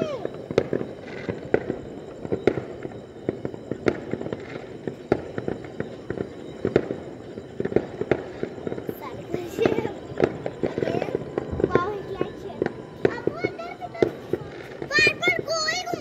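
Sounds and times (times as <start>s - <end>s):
distant fireworks bangs and pops: 0.0s - 16.0s
fireworks crackle: 0.0s - 16.0s.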